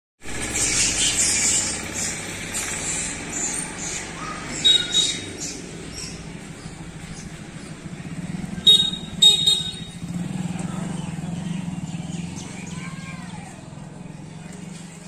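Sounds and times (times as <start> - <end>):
birds chirping: 0.3 - 15.0.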